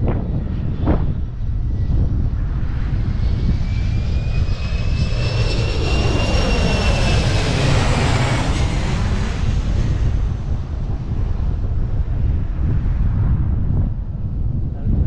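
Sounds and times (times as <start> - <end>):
airplane engine whine: 0.0 - 15.0
wind rumble on microphone: 0.0 - 15.0.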